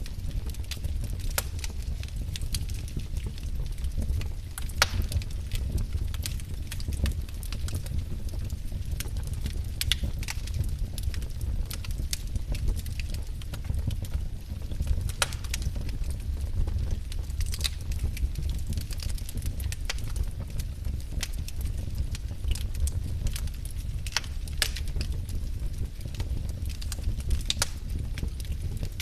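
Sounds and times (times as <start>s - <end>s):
firewood crackling and popping: 0.0s - 29.0s
low rumble of flames: 0.0s - 29.0s.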